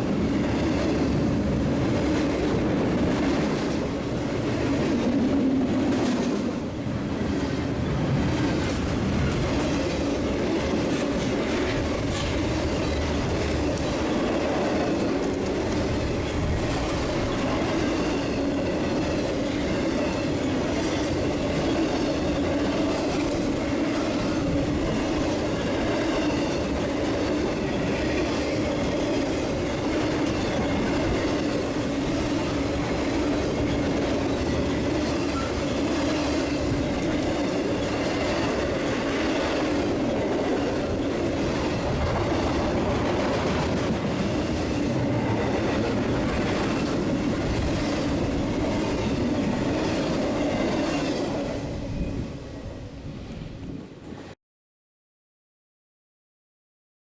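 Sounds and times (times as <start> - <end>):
train wheels rumbling on rail: 0.0 - 54.4.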